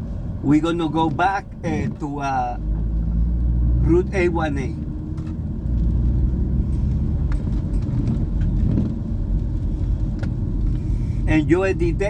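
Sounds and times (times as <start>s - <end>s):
car road rumble: 0.0s - 12.0s.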